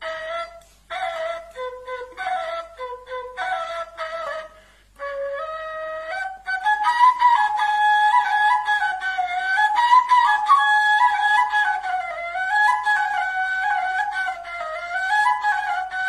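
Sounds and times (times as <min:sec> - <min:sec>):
bamboo flute melody: 0:00.0 - 0:16.0.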